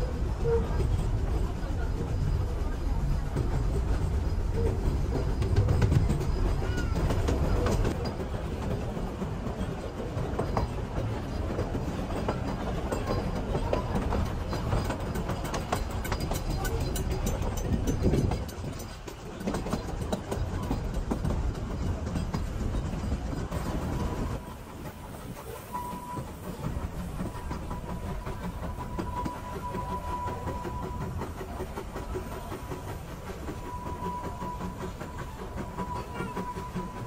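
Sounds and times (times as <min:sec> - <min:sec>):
train carriages rumbling on track: 0:00.0 - 0:37.0.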